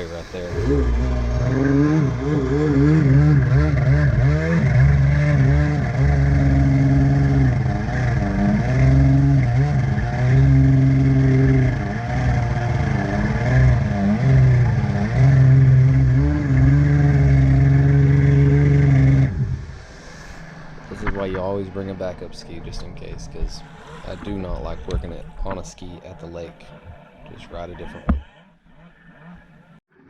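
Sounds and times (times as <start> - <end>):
jet ski engine bogging: 0.0 - 29.8.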